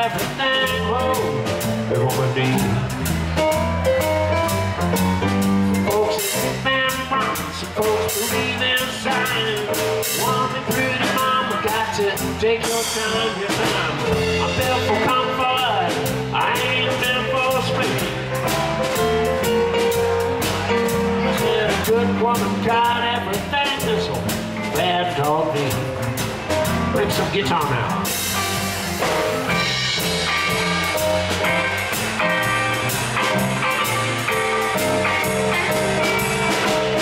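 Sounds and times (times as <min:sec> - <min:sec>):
drum kit: 0:00.0 - 0:37.0
electric bass: 0:00.0 - 0:37.0
electric guitar: 0:00.0 - 0:37.0.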